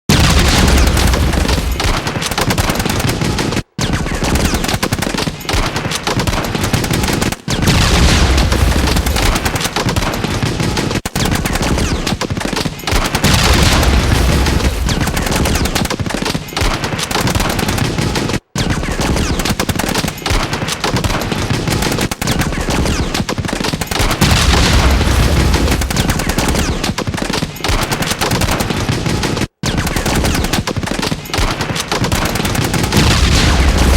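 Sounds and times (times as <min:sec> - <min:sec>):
rapid automatic gunfire: 0:00.1 - 0:33.9.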